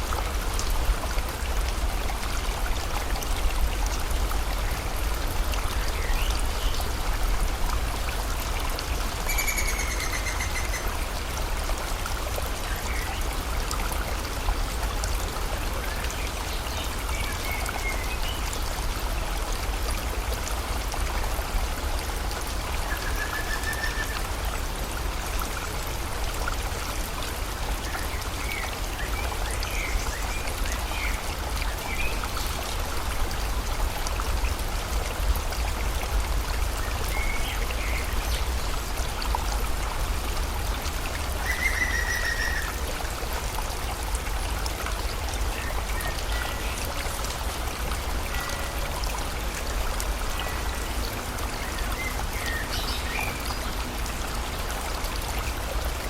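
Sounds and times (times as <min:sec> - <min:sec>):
rain falling: 0:00.0 - 0:56.0
river water flowing: 0:00.0 - 0:56.0.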